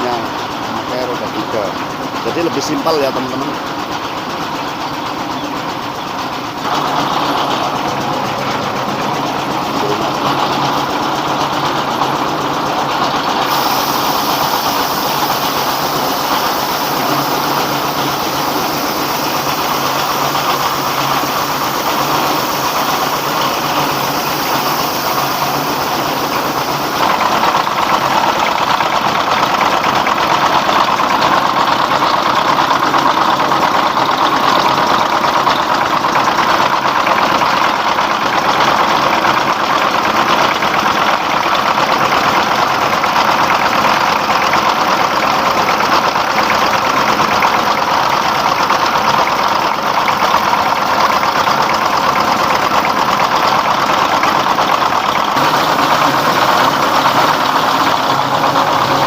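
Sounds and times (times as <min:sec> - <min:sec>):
milling machine drone: 0:00.0 - 0:37.4, 0:38.4 - 0:59.0.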